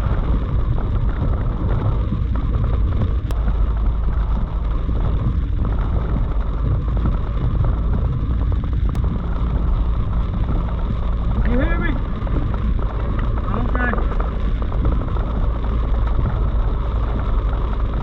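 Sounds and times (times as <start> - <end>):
engine and road noise: 0.0 - 18.0
heavy rain drumming on car: 0.0 - 18.0.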